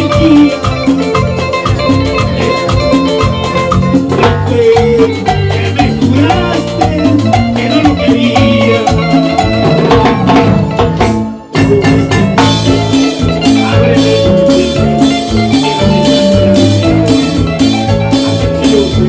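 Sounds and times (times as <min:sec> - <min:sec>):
bass line: 0:00.0 - 0:19.0
live band playing latin dance music: 0:00.0 - 0:19.0
rhythmic percussion: 0:00.0 - 0:19.0.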